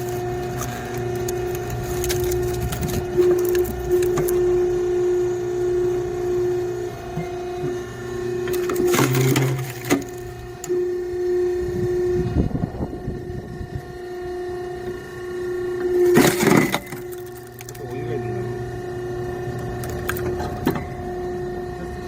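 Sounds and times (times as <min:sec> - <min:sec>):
log splitter motor humming: 0:00.0 - 0:22.0.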